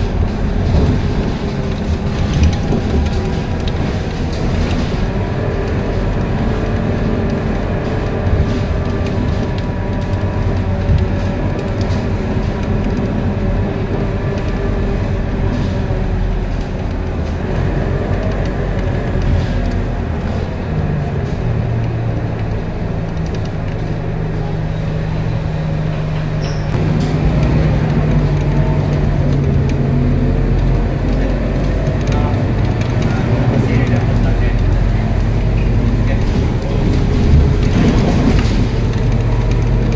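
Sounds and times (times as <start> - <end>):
bus diesel engine running: 0.0 - 39.9
steady low drone: 0.0 - 39.9.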